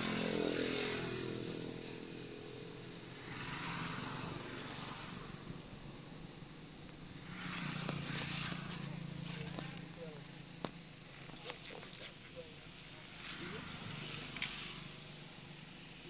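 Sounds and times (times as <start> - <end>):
low engine hum: 0.0 - 16.0
traffic noise: 0.0 - 16.0
vehicle engine passing: 0.0 - 16.0.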